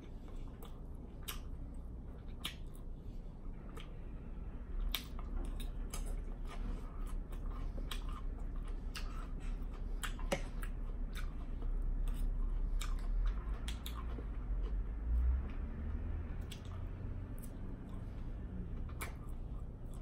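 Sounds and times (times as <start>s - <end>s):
chewing with wet mouth clicks: 0.0s - 4.0s, 4.8s - 20.0s.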